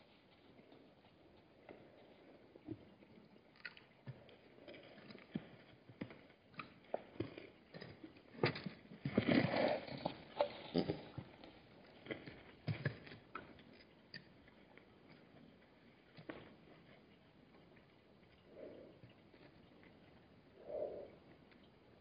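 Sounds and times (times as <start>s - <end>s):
soft hoof clicks and knocks: 0.0s - 22.0s.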